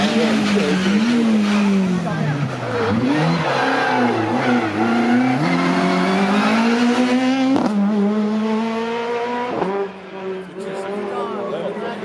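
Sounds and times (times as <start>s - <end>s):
rally car engine accelerating: 0.0s - 11.4s.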